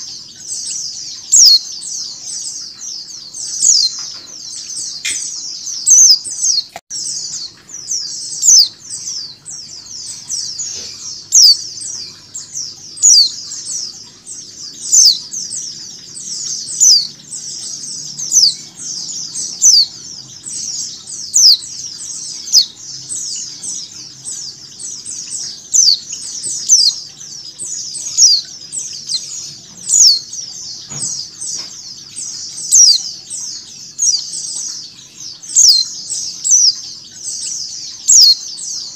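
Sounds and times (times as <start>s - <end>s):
flock of birds twittering: 0.0s - 38.9s.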